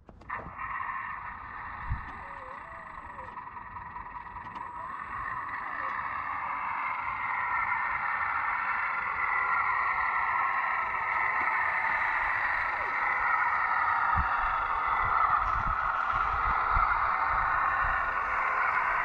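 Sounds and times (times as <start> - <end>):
toy wheel loader whirring: 0.0 - 19.0.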